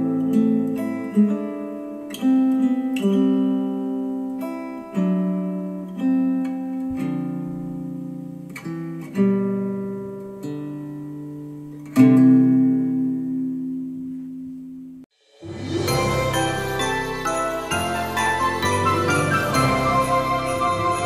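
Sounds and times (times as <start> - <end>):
acoustic guitar strummed chords: 0.0 - 21.0.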